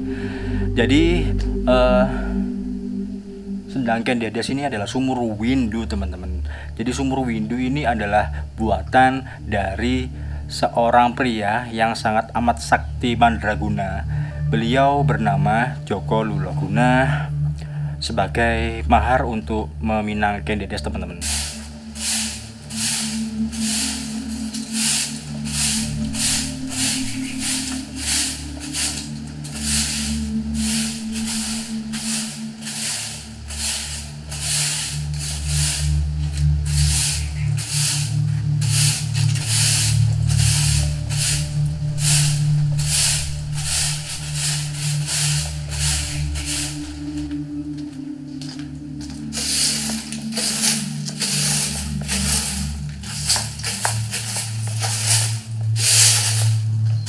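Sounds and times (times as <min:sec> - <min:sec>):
background music with low tones: 0:00.0 - 0:57.0
low steady hum: 0:00.0 - 0:57.0
broom sweeping dirt: 0:03.7 - 0:18.4, 0:20.4 - 0:57.0.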